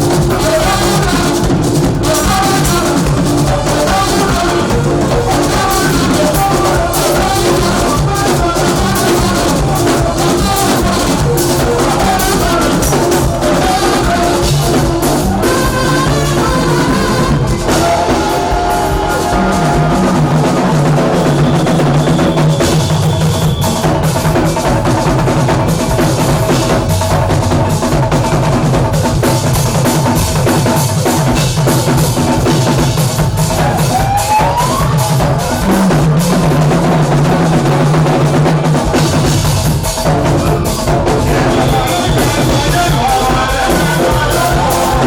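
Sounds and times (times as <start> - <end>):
drum kit: 0.0 - 45.0
live band music: 0.0 - 45.0.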